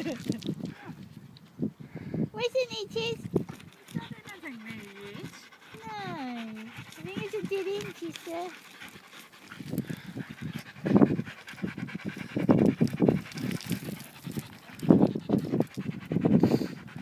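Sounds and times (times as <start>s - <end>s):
dog panting: 2.9s - 17.0s.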